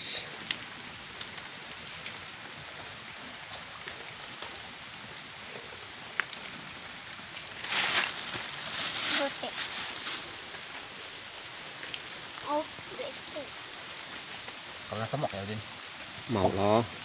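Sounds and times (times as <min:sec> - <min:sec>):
hiss of light drizzle: 0:00.0 - 0:17.0
rustle: 0:00.0 - 0:17.0.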